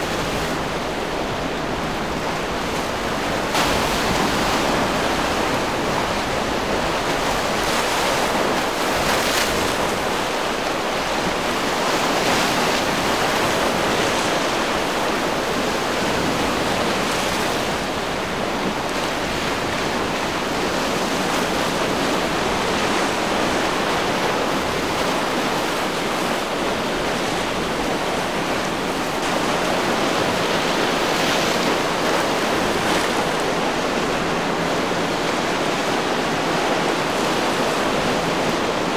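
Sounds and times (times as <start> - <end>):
surf and breaking waves: 0.0 - 38.9.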